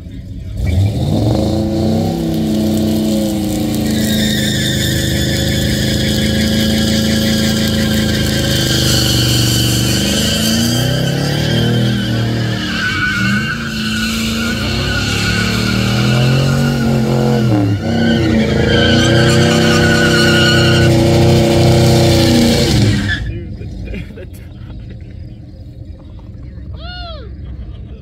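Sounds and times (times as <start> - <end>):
truck engine at high revs: 0.0 - 26.7
tyres squealing on pavement: 0.5 - 24.8.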